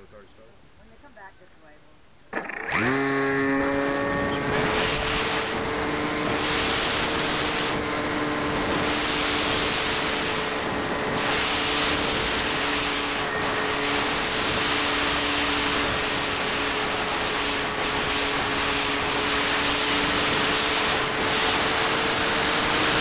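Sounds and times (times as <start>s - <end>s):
electric motor propeller whine: 2.3s - 23.0s
rush of air: 4.1s - 23.0s.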